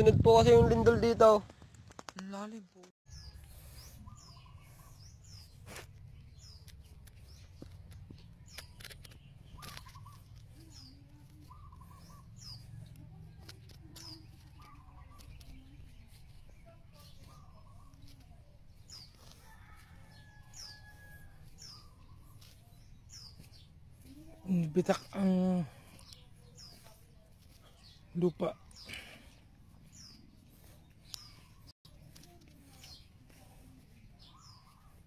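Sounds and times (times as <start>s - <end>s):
birds chirping: 2.4s - 35.0s.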